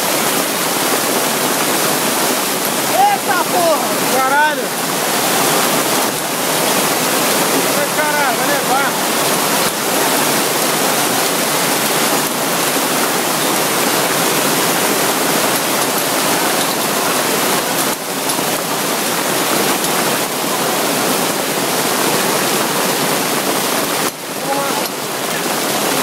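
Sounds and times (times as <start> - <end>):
torrential rain pouring: 0.0 - 26.0.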